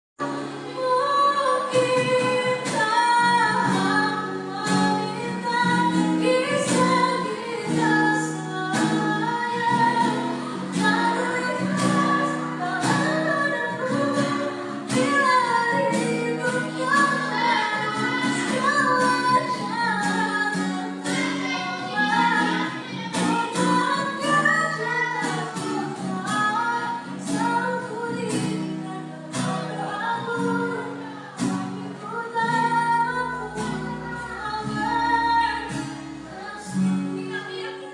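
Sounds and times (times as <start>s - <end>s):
girl singing a pop ballad: 0.2s - 37.9s.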